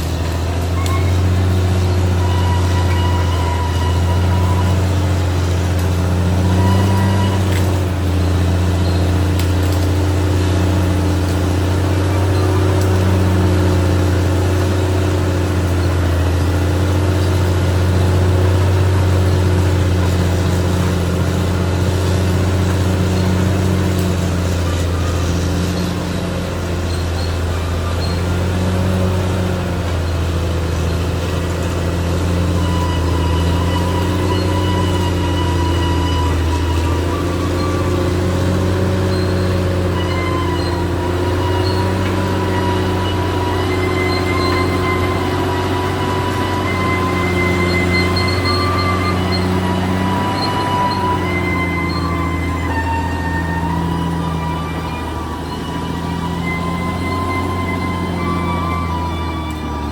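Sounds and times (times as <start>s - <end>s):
bulldozer diesel engine: 0.0s - 59.9s
faint high squeal: 0.0s - 59.9s.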